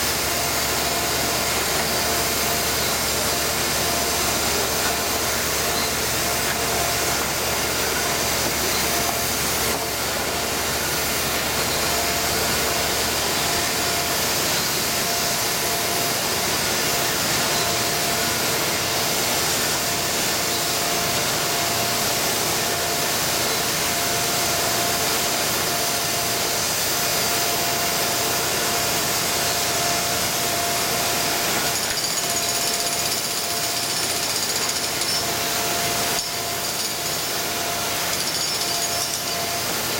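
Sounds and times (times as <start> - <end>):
jackhammer running: 0.0 - 39.9.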